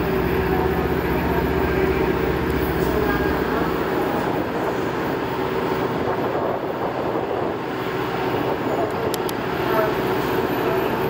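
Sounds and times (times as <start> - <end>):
low diesel drone: 0.0 - 11.0.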